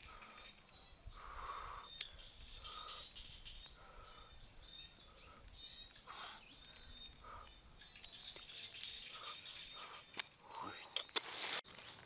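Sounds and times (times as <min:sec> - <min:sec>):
eggshell clicking and crackling: 0:00.0 - 0:11.3.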